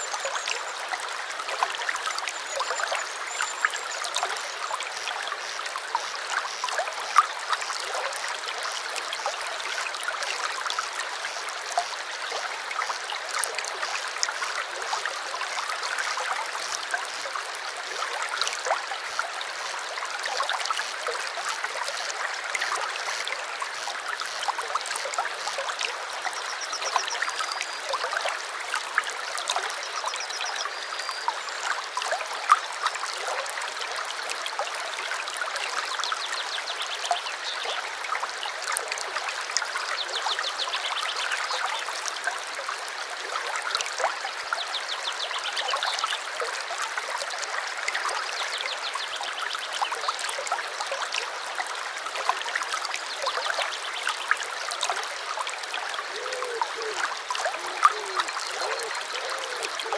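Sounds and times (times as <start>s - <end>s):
small stream running: 0.0s - 59.9s.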